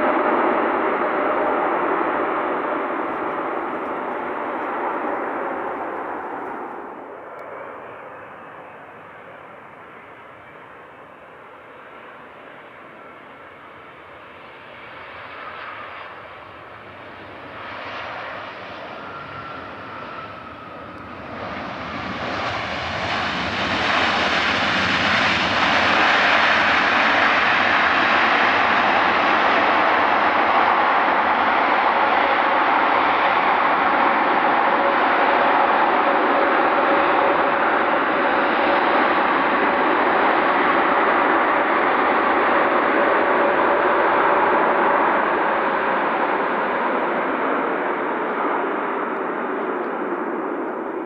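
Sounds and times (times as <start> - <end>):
jet airliner engines: 0.0 - 51.0.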